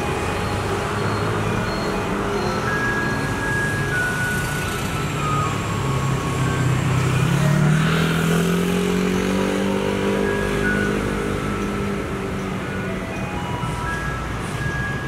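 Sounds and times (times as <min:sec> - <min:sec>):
garbage truck engine revving: 0:00.0 - 0:15.0.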